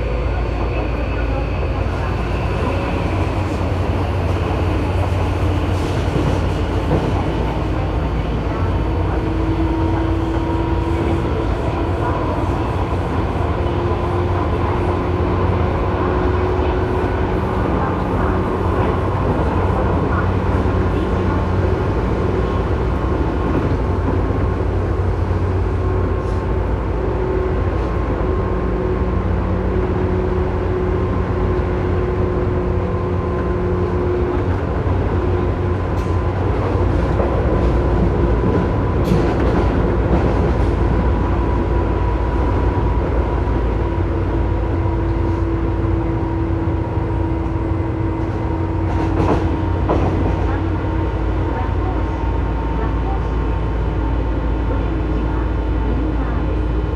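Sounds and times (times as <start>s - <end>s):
train rail rumble: 0.0s - 56.9s.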